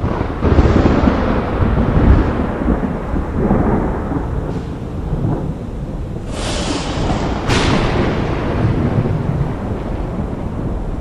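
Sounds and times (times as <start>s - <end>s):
thunder clap and rumble: 0.0s - 11.0s.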